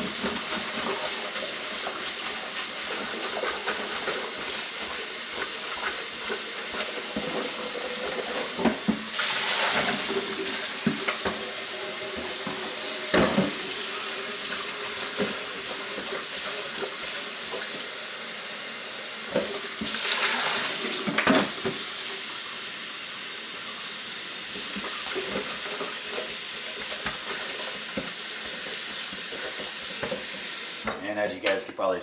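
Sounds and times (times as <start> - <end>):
faucet running into a can: 0.0 - 30.8.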